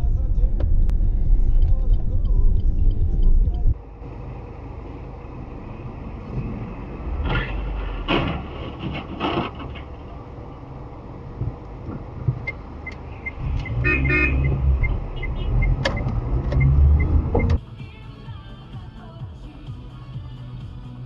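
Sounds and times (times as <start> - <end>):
car engine and road rumble: 0.0 - 21.0
traffic noise: 0.0 - 21.0.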